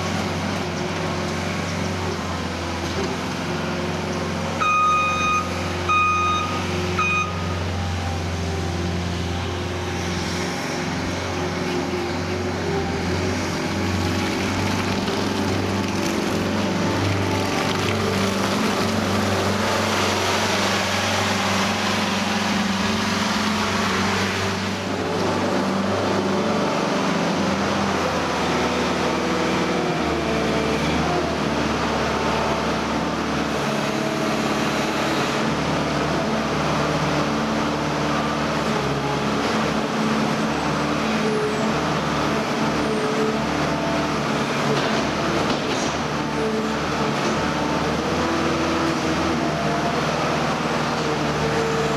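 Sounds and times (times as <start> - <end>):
loader diesel engine running: 0.0 - 51.9.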